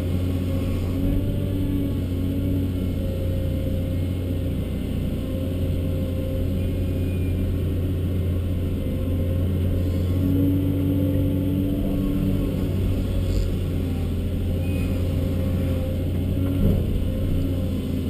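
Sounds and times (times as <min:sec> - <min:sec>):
diesel excavator engine droning: 0:00.0 - 0:18.0.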